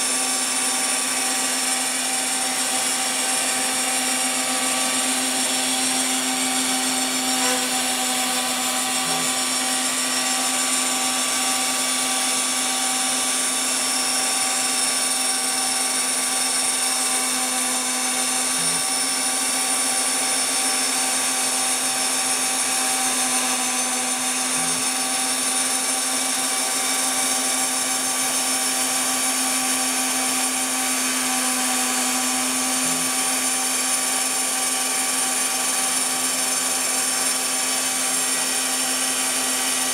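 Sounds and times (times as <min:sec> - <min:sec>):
router spindle cutting: 0:00.0 - 0:39.9.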